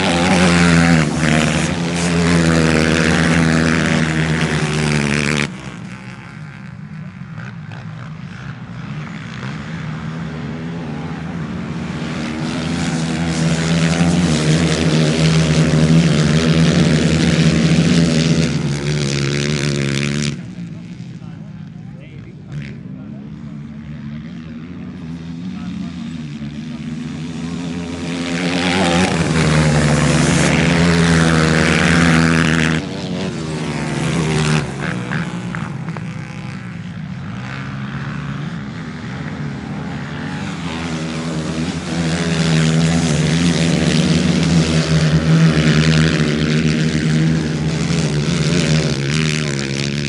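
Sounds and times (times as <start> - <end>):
racing atv engines revving: 0.0 - 50.0.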